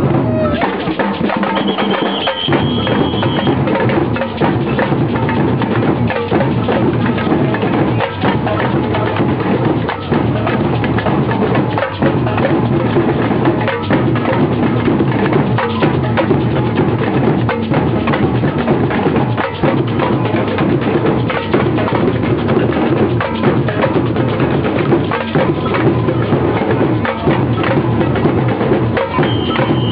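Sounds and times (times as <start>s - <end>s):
marching drum band: 0.0s - 29.9s.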